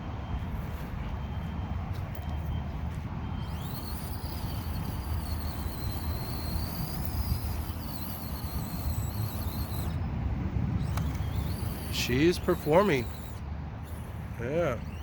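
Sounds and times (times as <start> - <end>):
small electric motor whining: 0.4 - 15.0.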